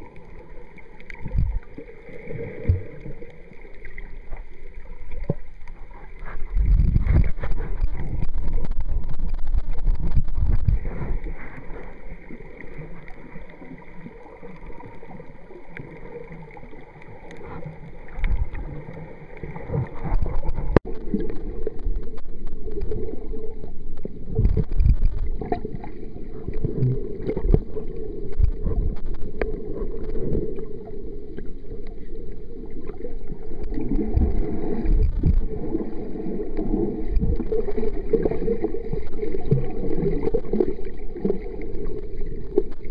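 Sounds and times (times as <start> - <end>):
muffled water sloshing underwater: 0.0 - 42.9.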